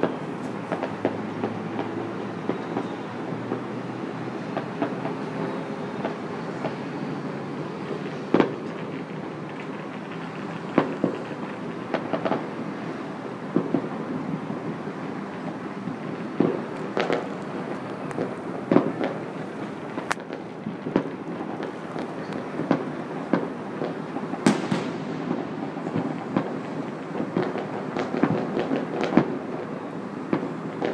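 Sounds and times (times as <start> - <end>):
crackling rumble: 0.0 - 30.9
distant fireworks bangs and pops: 0.0 - 30.9.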